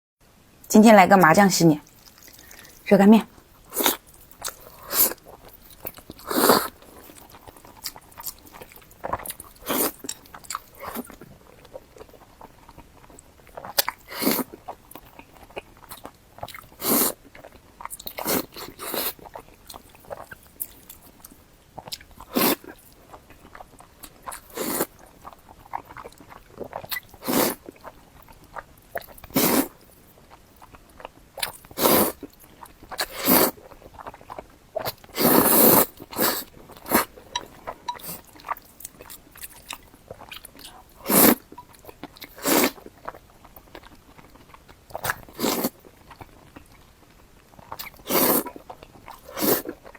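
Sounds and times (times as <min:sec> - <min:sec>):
wet chewing and mouth sounds: 0:01.8 - 0:49.9.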